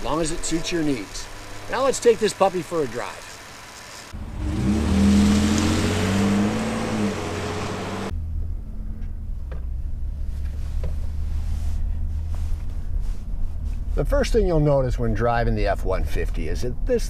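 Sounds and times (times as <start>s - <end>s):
truck engine accelerating: 0.0s - 14.6s
truck drone inside cab: 0.0s - 17.0s.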